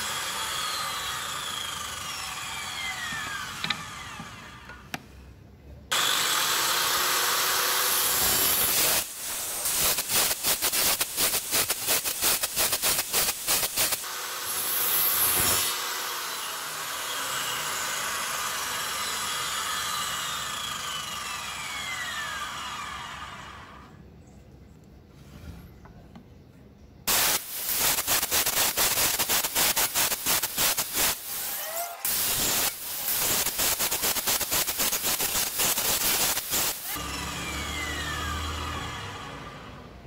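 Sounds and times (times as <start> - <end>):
circular saw cutting: 0.0 - 4.8, 5.9 - 24.0, 27.1 - 40.0.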